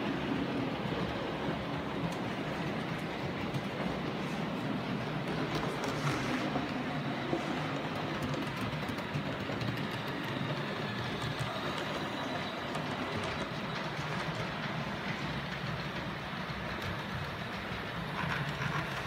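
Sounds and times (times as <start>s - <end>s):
model train motors humming: 0.0s - 19.0s
wheels clicking on rails: 0.0s - 19.0s.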